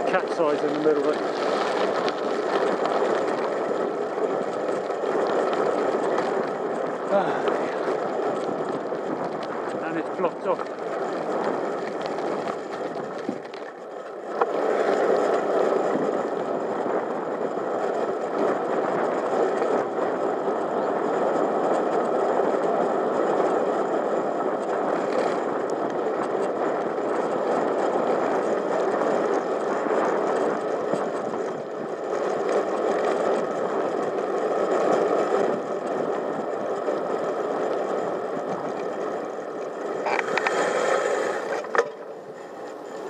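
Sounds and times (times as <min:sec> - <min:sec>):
bicycle tyres on tarmac: 0:00.0 - 0:43.0
wind on microphone: 0:00.0 - 0:43.0.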